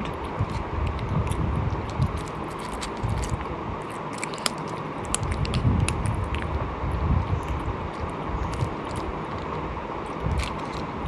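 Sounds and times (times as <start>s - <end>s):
close chewing and biting: 0.0s - 11.0s.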